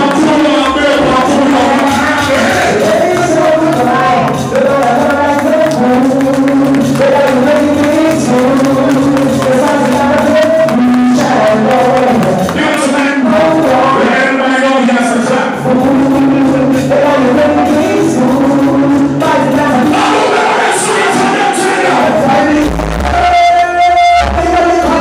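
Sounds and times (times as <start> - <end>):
song with vocals over speakers: 0.0 - 25.0.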